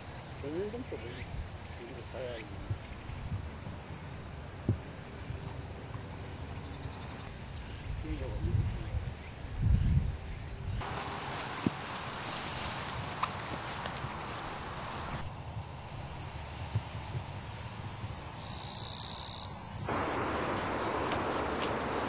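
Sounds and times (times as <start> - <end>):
insects chirping: 0.0 - 22.0
wide steady hiss: 0.0 - 22.0.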